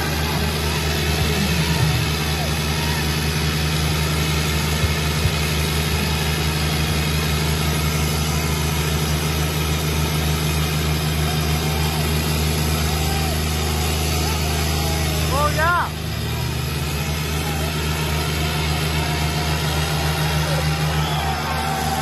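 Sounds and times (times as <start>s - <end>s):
tractor engines droning under load: 0.0s - 22.0s.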